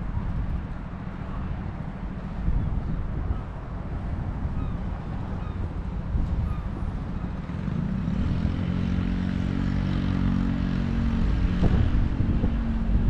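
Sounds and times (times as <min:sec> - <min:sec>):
steady engine hum: 0:00.0 - 0:13.0
wind rumbling on microphone: 0:00.0 - 0:13.0.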